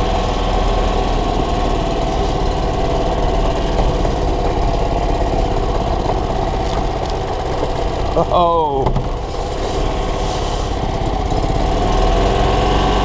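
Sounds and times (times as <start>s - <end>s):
golf cart engine running: 0.0s - 13.0s.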